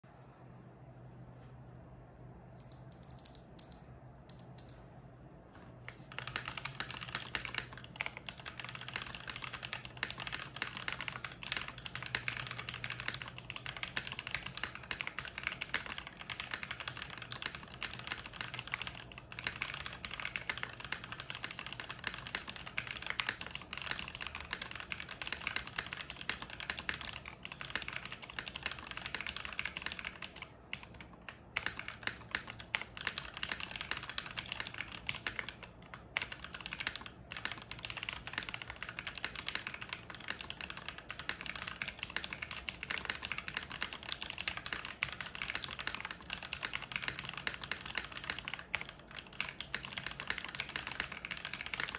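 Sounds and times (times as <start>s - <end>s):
mechanical keyboard typing: 2.6s - 4.8s, 5.9s - 51.9s.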